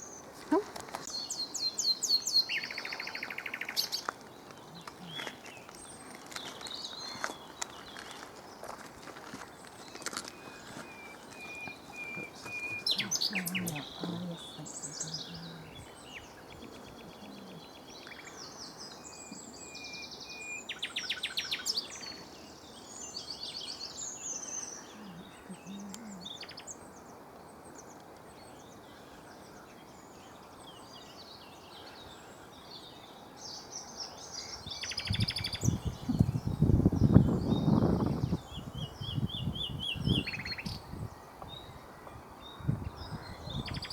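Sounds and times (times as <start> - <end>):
nightingale singing: 0.0 - 8.2, 10.3 - 43.9.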